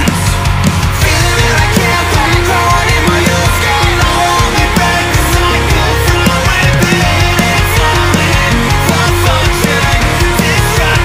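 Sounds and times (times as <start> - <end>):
distorted guitars: 0.0 - 11.0
drum hits: 0.0 - 11.0.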